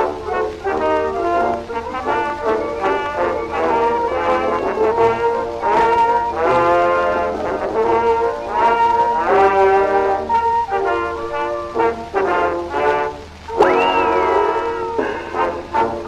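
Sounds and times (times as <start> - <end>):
brass melody: 0.0 - 16.0
old dance orchestra recording: 0.0 - 16.0.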